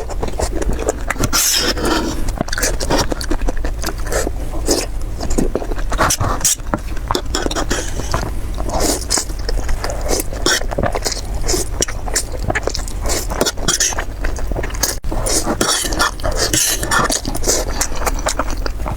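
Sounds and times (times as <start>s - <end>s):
crunching and chewing: 0.0s - 18.9s.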